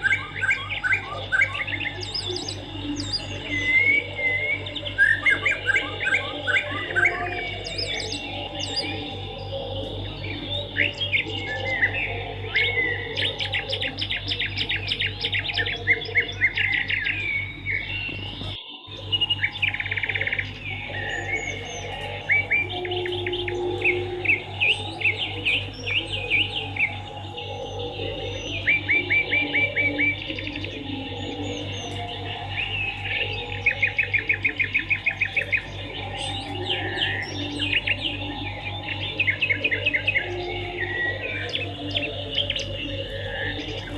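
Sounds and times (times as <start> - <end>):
fast buzzy bird trill: 0.0 - 43.9
steady low hum: 0.0 - 43.9.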